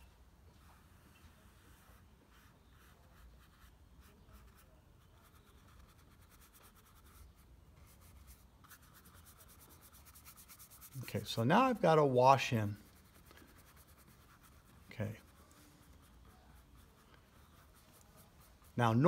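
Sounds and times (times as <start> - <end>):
paintbrush scratching on paper: 0.5 - 19.0.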